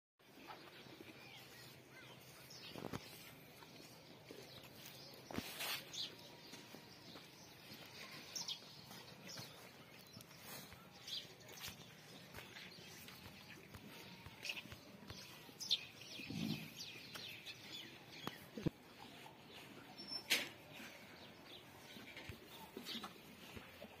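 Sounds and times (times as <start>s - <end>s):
small birds chirping: 0.2s - 24.0s.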